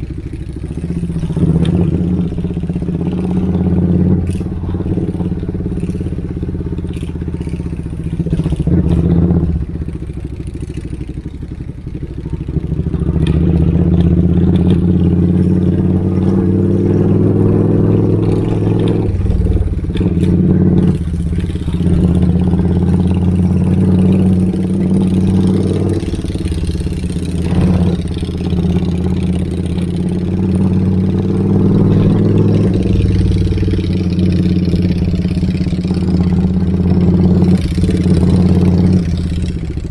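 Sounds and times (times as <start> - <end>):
motorcycle engine with loud exhaust: 0.0 - 39.9.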